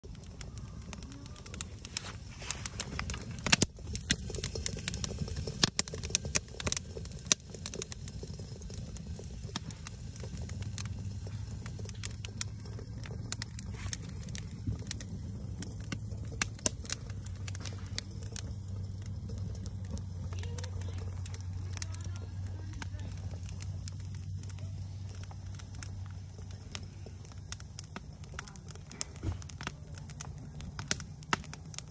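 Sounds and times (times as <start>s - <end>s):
campfire crackling and popping: 0.0s - 31.9s
low steady hum: 0.0s - 31.9s.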